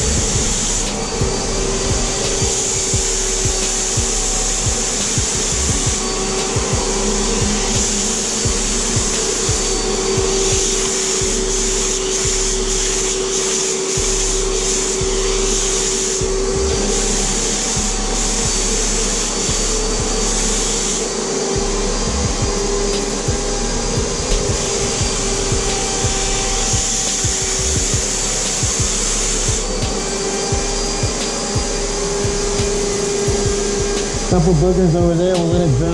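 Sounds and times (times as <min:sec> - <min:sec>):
spray gun air hissing: 0:00.0 - 0:35.9
turbine whining: 0:00.0 - 0:35.9.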